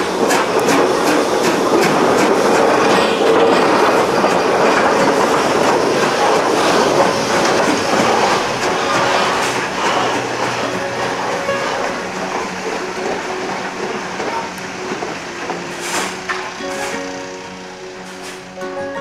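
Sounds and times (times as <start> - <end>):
train running along track: 0.0 - 19.0.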